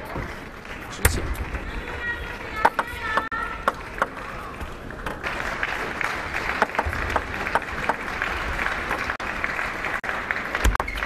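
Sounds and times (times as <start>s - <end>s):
spectators clapping: 0.0s - 11.0s.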